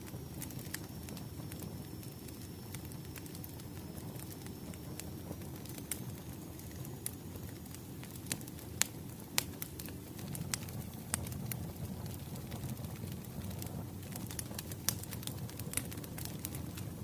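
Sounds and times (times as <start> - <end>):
fire pops and snaps: 0.0 - 17.0
wood fire crackling: 0.0 - 17.0.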